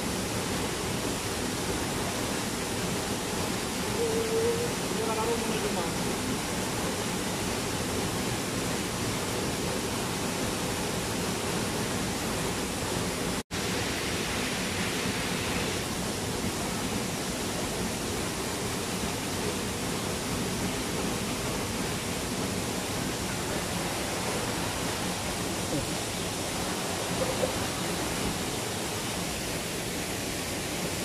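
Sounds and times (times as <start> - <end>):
waterfall pouring into pool: 0.0 - 31.0.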